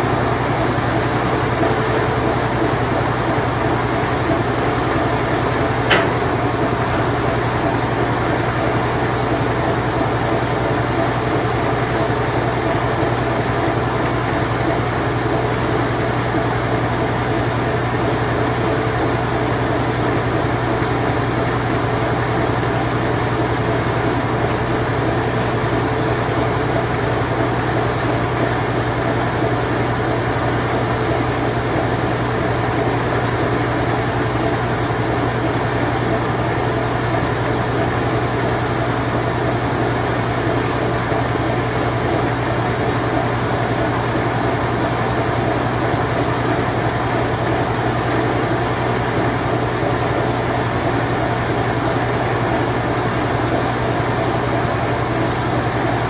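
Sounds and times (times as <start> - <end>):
washing machine spin cycle hum: 0.0 - 56.0.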